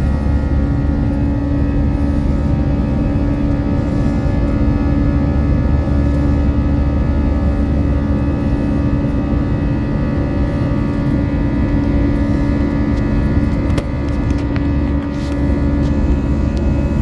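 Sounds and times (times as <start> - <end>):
jet engines heard from cabin: 0.0 - 17.0.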